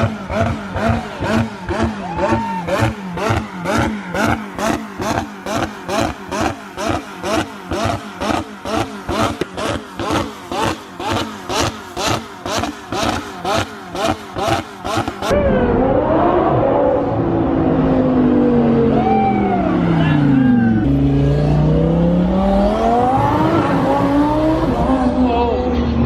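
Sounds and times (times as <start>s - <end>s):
car engine revving in blips: 0.0s - 19.0s, 20.8s - 26.0s.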